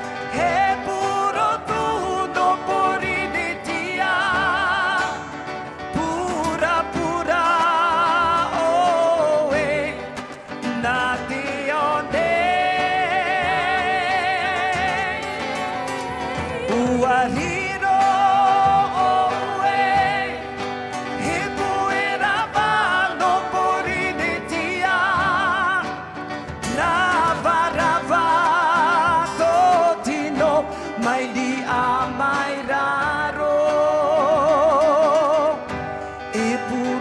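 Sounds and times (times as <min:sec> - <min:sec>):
instrumental accompaniment: 0:00.0 - 0:37.0
person singing with vibrato: 0:00.0 - 0:37.0.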